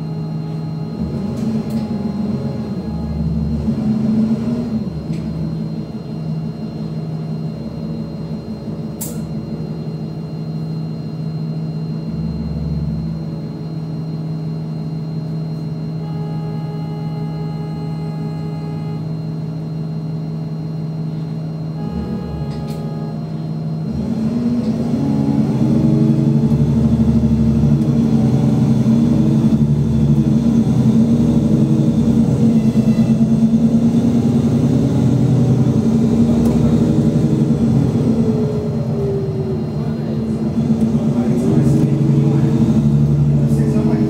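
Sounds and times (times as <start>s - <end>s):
bus engine humming: 0.0s - 44.0s.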